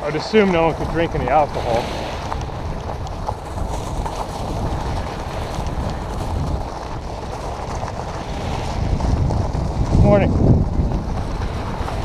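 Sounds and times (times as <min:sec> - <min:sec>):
bike tyres crunching on pebbles: 0:00.0 - 0:12.0
wind buffeting microphone: 0:00.0 - 0:12.0.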